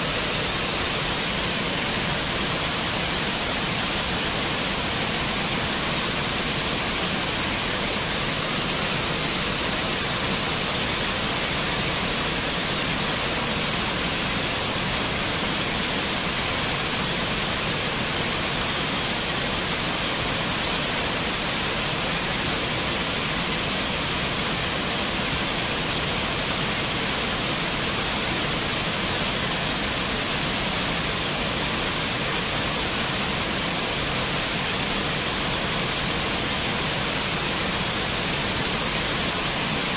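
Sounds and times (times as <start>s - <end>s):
rush of running water: 0.0s - 39.9s.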